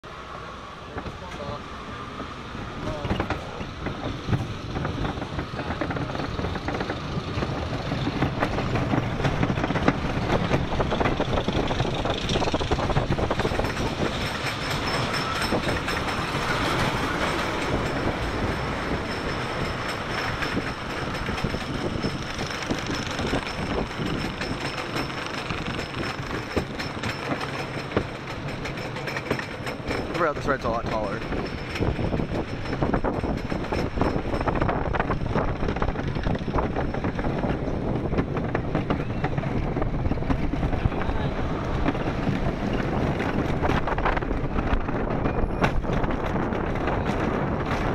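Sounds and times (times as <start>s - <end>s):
roller coaster clattering on lift: 0.9s - 47.9s.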